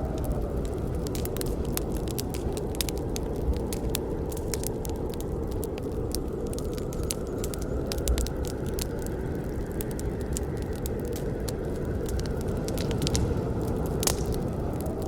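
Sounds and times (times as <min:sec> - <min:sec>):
sharp crackles and pops: 0:00.0 - 0:15.0
wood fire burning: 0:00.0 - 0:15.0.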